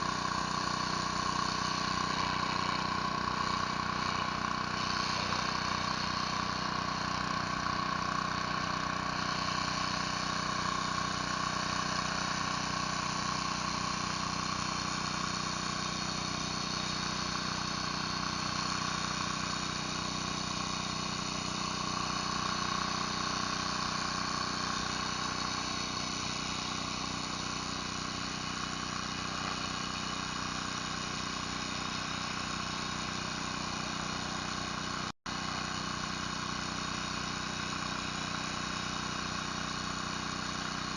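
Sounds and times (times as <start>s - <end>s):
pressure washer engine running: 0.0s - 40.9s
water spray hissing on concrete: 0.0s - 40.9s.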